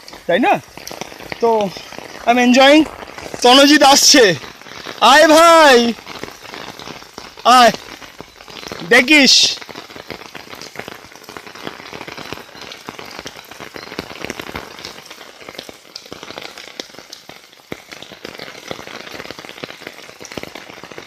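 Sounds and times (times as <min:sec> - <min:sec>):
rain pattering on umbrella: 0:00.0 - 0:21.0.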